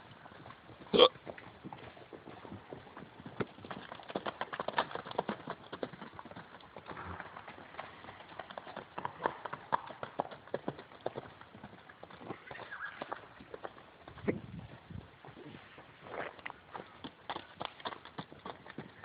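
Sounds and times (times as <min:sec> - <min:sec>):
horses galloping hoofbeats: 0:00.0 - 0:19.0.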